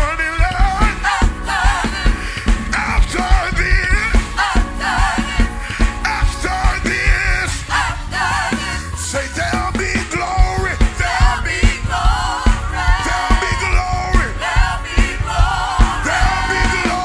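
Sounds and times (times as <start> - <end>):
band with fast drum beat: 0.0 - 17.0
gospel singers: 0.0 - 17.0.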